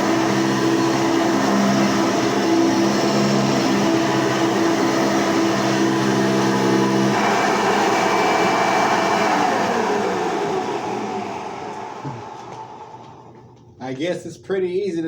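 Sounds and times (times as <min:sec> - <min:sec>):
vacuum cleaner motor winding down: 0:00.0 - 0:13.5.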